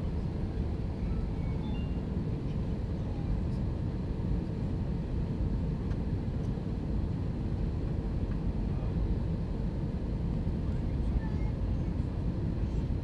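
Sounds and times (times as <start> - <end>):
airflow and jet engine rumble: 0.0 - 13.0.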